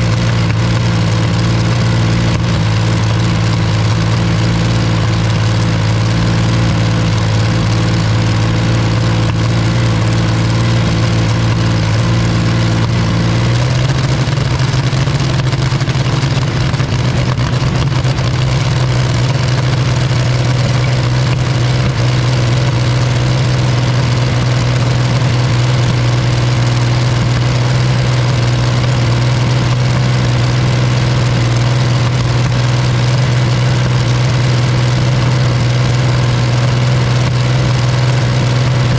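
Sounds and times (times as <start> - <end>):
engine running loud: 0.0 - 38.9.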